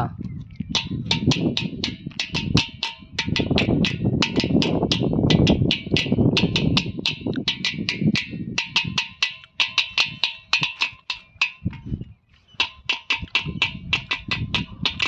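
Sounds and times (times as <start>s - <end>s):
deep bass drum strokes: 0.7s - 15.0s
hand drum slaps: 0.8s - 11.8s, 12.6s - 15.0s.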